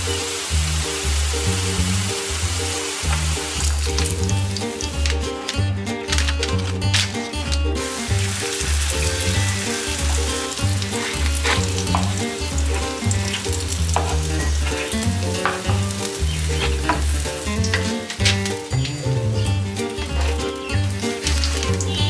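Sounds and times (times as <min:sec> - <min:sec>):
pancakes sizzling in oil: 0:00.0 - 0:05.6, 0:07.8 - 0:22.0
background music with bass line: 0:00.0 - 0:22.0.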